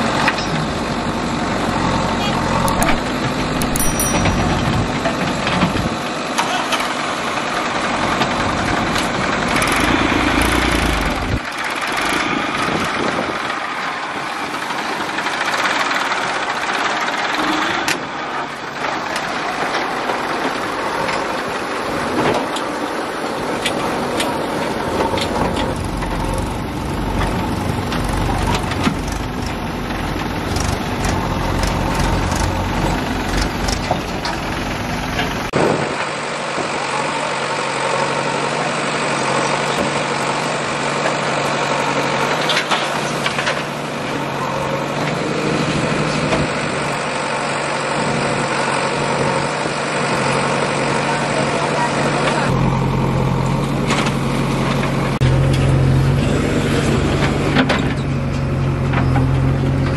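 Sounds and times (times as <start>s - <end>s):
backhoe loader engine working: 0.0s - 59.9s
diesel tractors running: 0.0s - 59.9s.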